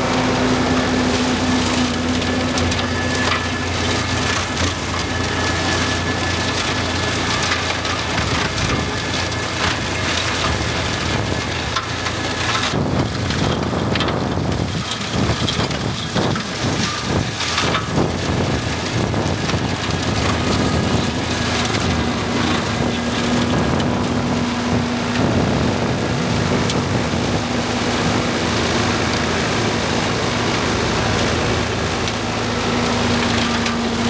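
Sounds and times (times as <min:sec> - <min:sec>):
tractor engine running: 0:00.0 - 0:34.0
crackling and snapping of wood: 0:00.2 - 0:34.0.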